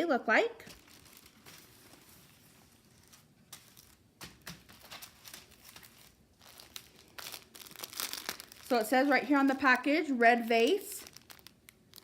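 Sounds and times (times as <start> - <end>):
packaging crinkling: 0.6 - 12.0.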